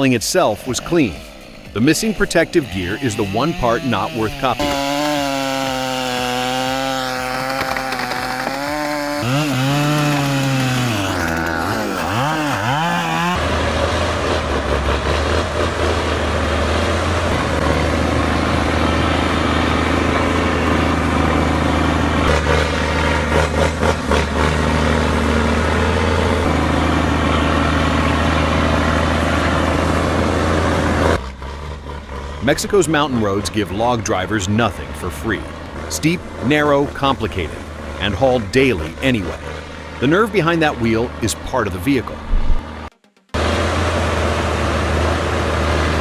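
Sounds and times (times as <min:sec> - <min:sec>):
chainsaw revving: 0:00.0 - 0:46.0
truck engine droning: 0:00.0 - 0:46.0.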